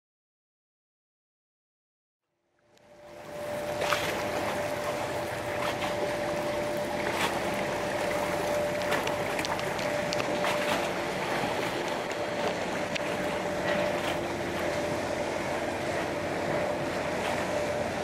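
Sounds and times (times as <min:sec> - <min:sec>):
water: 0:02.3 - 0:18.0
wind: 0:02.4 - 0:18.0
distant engine drone: 0:02.5 - 0:18.0.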